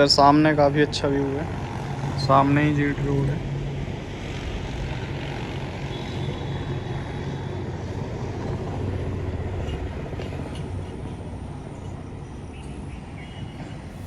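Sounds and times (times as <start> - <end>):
highway traffic rumble: 0.0 - 14.0.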